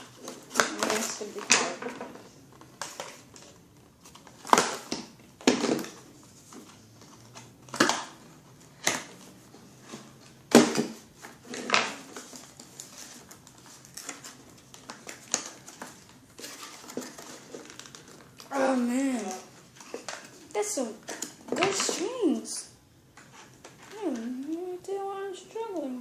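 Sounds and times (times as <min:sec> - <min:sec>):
packaging clacks and crinkles: 0:00.0 - 0:22.4.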